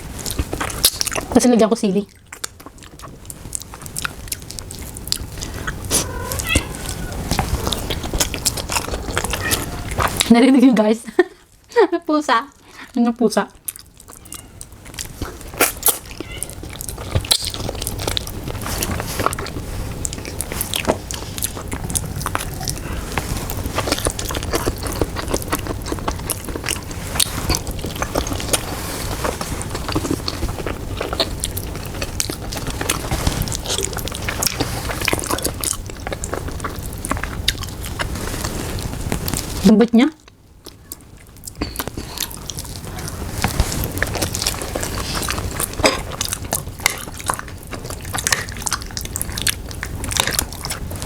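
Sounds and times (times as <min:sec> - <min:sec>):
person chewing and biting: 0:00.2 - 0:01.3, 0:02.2 - 0:10.3, 0:13.6 - 0:39.6, 0:40.3 - 0:51.0.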